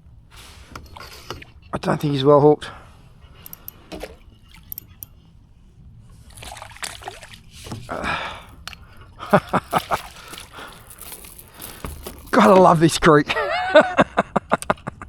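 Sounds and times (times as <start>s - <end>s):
water splashing and sloshing: 0.0s - 13.4s.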